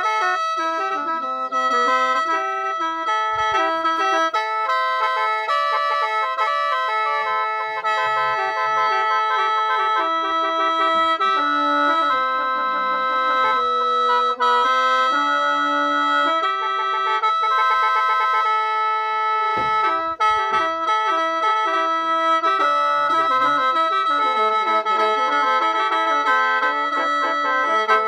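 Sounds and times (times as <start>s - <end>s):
free-reed mouth organ playing: 0.0s - 28.0s.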